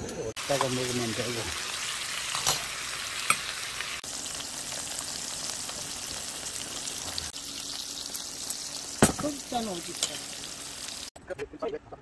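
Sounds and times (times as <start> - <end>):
pork sizzling on a griddle: 0.4 - 11.2.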